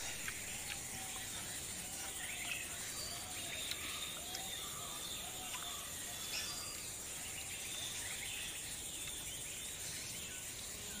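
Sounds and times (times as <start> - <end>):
bird chirps: 0.0 - 11.0
high insect drone: 0.0 - 11.0.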